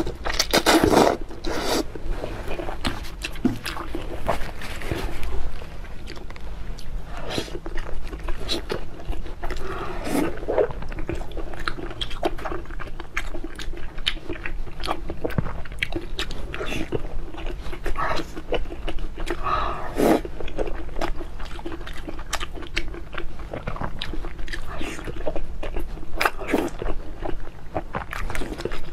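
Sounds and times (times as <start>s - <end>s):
person chewing food: 0.0s - 28.9s.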